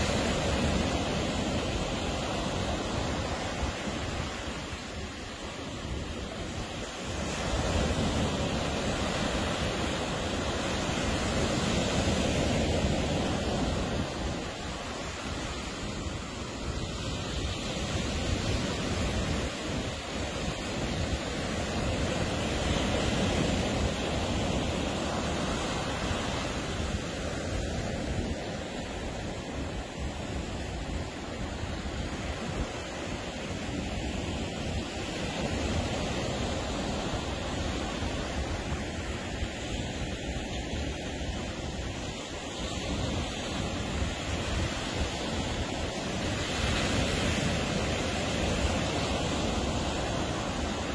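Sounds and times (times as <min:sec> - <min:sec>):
ocean waves breaking on beach: 0:00.0 - 0:50.9.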